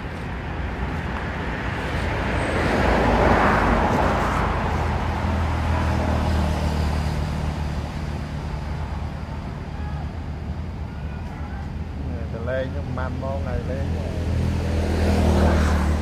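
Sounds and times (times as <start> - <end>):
low engine hum: 0.0 - 16.0
traffic passing: 0.0 - 16.0.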